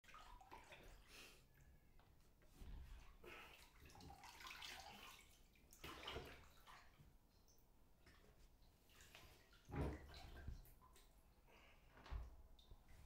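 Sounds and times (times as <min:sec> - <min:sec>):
water sloshing in a bathtub: 0:00.0 - 0:13.0.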